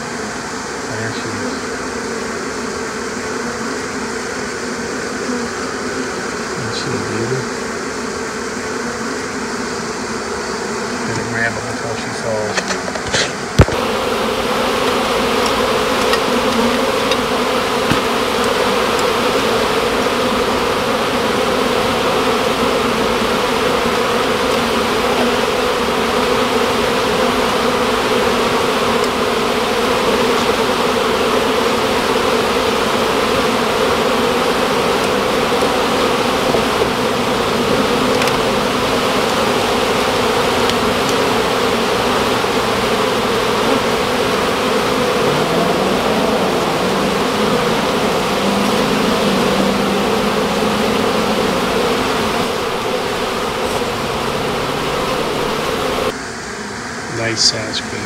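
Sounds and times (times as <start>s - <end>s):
honey bees buzzing: 0.0s - 58.0s.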